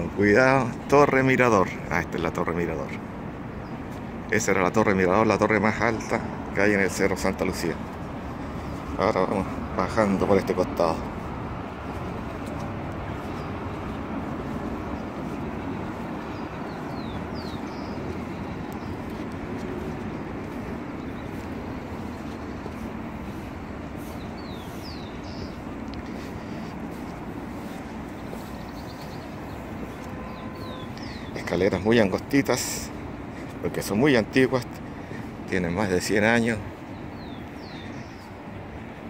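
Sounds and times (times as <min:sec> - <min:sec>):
city traffic rumble: 0:00.0 - 0:39.0
bird chirping: 0:05.1 - 0:33.5, 0:34.9 - 0:38.8.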